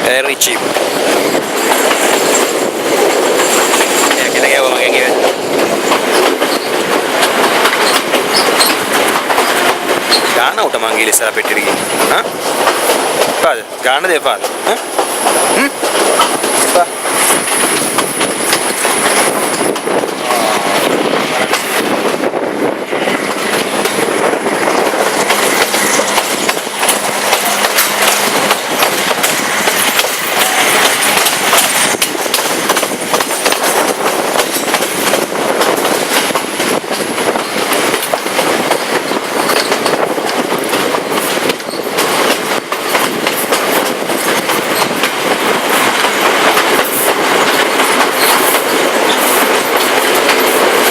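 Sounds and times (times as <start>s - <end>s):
train carriage rumbling: 0.0s - 50.9s
wheels clattering over rail joints: 0.6s - 20.2s, 23.2s - 50.9s.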